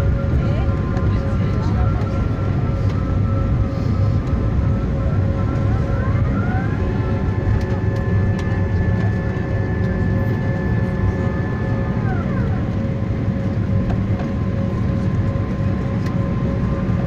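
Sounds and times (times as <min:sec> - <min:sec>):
low rumble of airliner rollout: 0:00.0 - 0:17.0
whining jet engine tones: 0:00.0 - 0:17.0.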